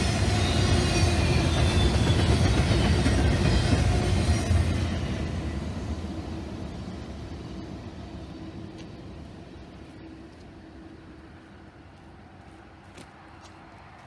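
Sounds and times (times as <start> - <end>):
freight train rumble and wheel noise: 0.0 - 14.0.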